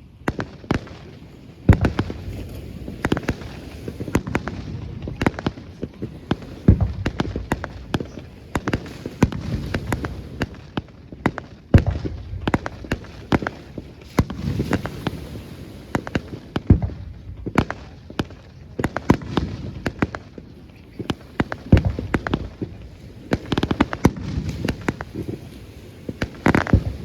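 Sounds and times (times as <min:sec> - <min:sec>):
fireworks bangs and crackles: 0:00.0 - 0:27.0
heavy firework booms: 0:00.0 - 0:27.0.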